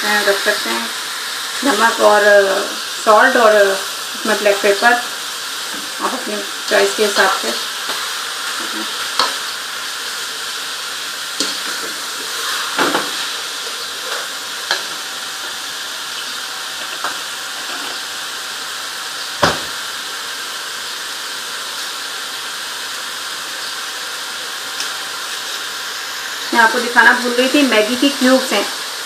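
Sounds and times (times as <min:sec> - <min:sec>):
food sizzling in a pot: 0:00.0 - 0:29.0.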